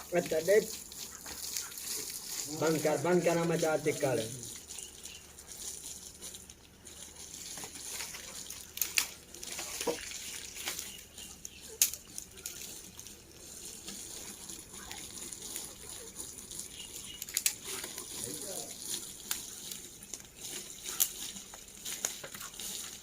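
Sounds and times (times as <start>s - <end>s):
water running and splashing: 0.0s - 23.0s.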